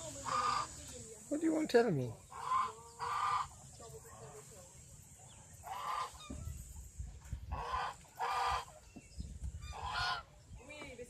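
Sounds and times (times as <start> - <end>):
birds giving harsh calls: 0.0 - 11.0.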